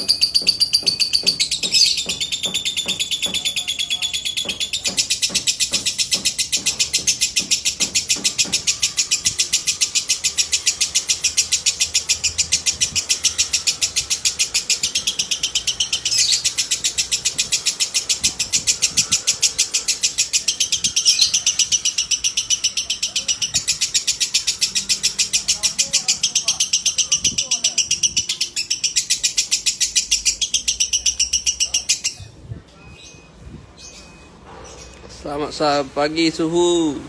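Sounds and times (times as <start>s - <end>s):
lovebird chattering trill: 0.0s - 32.4s.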